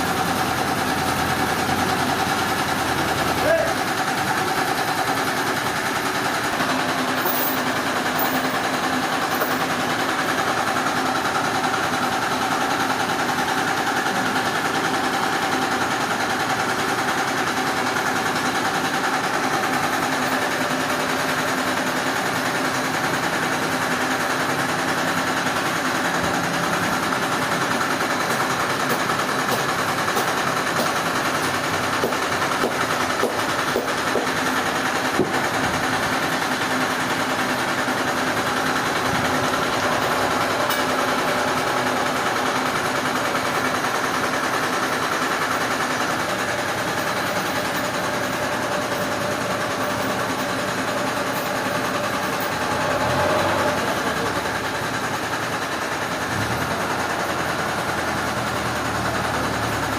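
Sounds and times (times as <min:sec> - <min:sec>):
sawmill machinery motor drone: 0:00.0 - 0:59.9.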